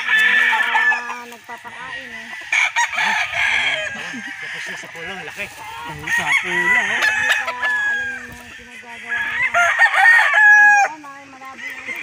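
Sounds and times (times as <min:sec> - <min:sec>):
rooster crowing: 0:00.0 - 0:12.0.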